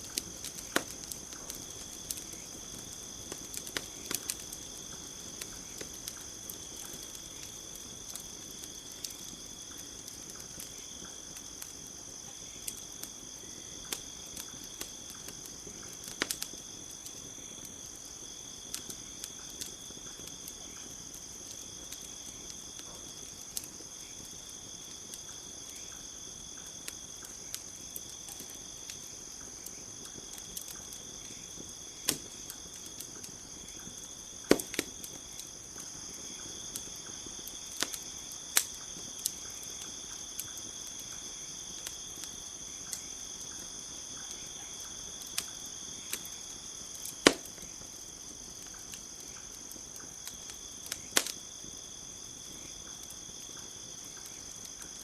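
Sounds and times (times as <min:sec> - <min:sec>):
campfire crackling and popping: 0:00.0 - 0:55.0
crickets chirping: 0:00.0 - 0:55.0.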